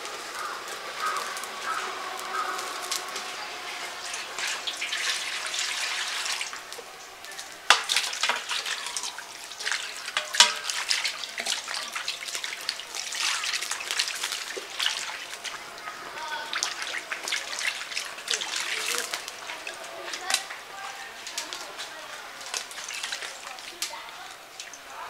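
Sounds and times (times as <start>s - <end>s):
fish washed by hand splashing: 0.0s - 25.0s
water poured into metal basin: 1.7s - 24.9s.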